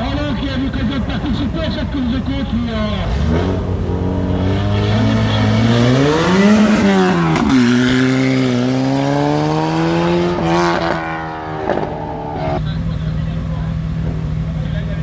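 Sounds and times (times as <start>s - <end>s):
racing car engine revving: 0.8s - 13.2s.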